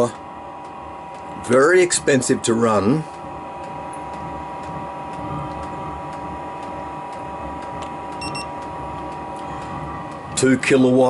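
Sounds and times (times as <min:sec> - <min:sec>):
heater fan hum with whine: 0:00.0 - 0:11.0.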